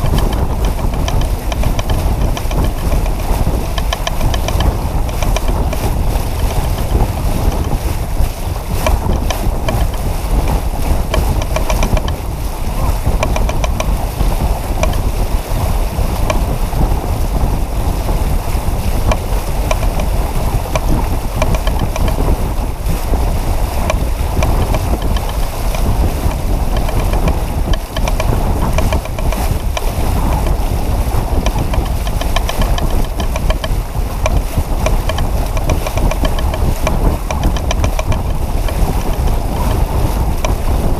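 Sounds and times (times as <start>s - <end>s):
water rushing past hull: 0.0s - 40.9s
wind buffeting microphone: 0.0s - 40.9s.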